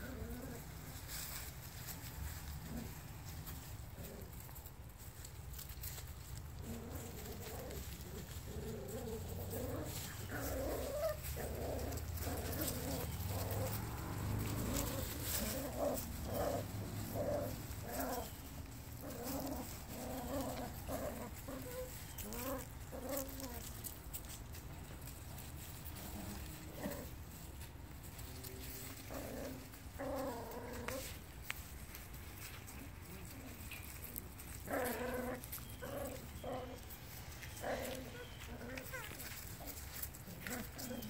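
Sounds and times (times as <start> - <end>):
puppies growling and yipping: 0.0 - 41.0.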